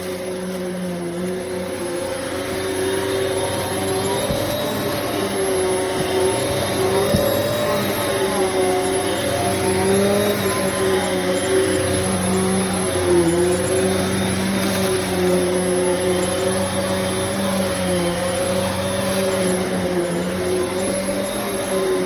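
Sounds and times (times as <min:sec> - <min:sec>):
vacuum cleaner motor hum: 0:00.0 - 0:22.0.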